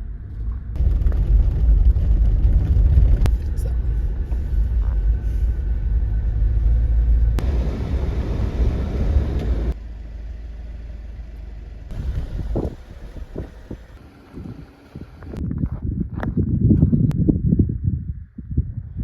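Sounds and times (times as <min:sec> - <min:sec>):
vehicle driving on dirt road: 0:00.0 - 0:17.2.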